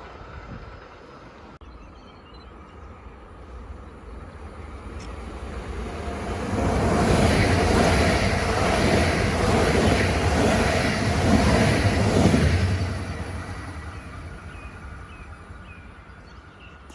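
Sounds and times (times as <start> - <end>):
train passing by: 0.0 - 16.9.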